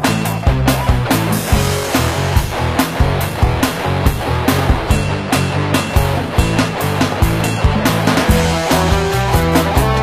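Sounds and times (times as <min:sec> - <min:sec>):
bass guitar: 0:00.0 - 0:10.0
drums on a steady beat: 0:00.0 - 0:10.0
shred electric guitar: 0:00.0 - 0:10.0.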